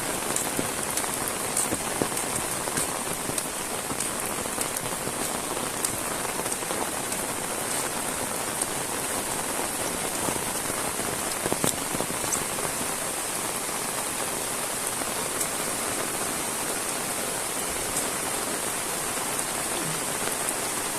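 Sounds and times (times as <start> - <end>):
heavy rain falling: 0.0 - 20.9
raindrops ticking: 0.0 - 20.9.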